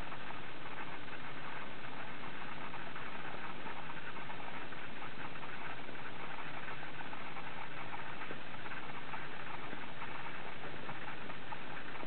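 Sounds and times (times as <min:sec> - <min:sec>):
blizzard wind with fine crackle: 0:00.0 - 0:12.0.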